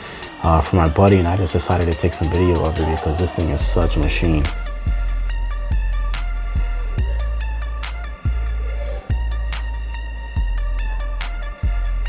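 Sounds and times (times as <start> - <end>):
hip hop beat with heavy bass: 0.0 - 12.0.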